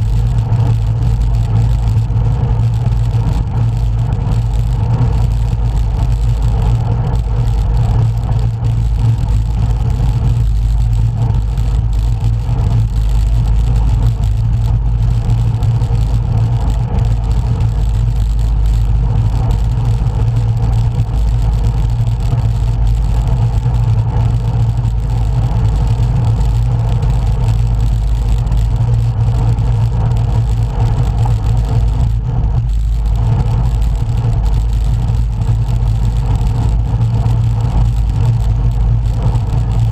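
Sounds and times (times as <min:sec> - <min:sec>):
loud wind rumble on microphone: 0:00.0 - 0:39.9.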